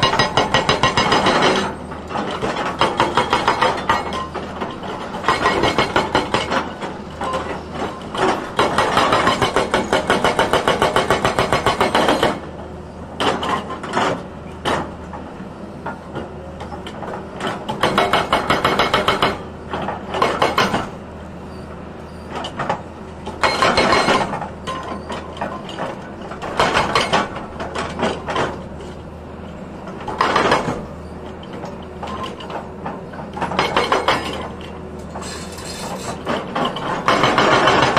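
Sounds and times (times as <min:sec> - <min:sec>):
hydraulic rock breaker hammering rock: 0:00.0 - 0:12.6, 0:16.1 - 0:21.0, 0:22.3 - 0:29.0, 0:29.8 - 0:37.9.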